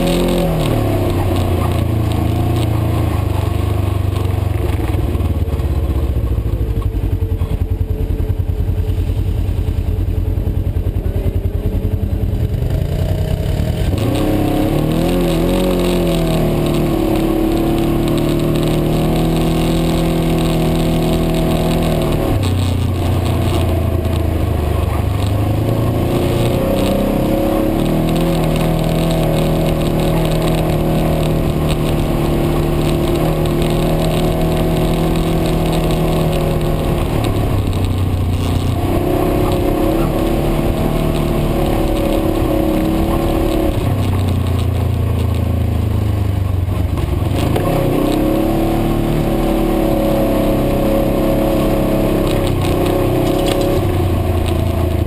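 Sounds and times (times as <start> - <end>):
utility vehicle engine under load: 0.0 - 55.0.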